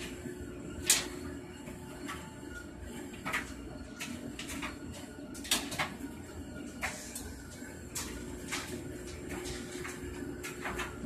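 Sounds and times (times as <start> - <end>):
air pump humming: 0.0 - 11.0.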